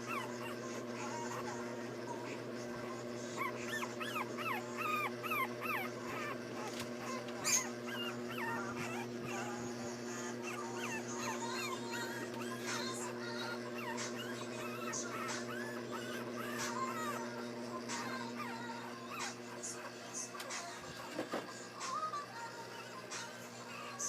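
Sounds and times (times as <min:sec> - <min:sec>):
puppies whimpering and squeaking: 0:00.0 - 0:24.0
steady low hum: 0:00.0 - 0:24.0.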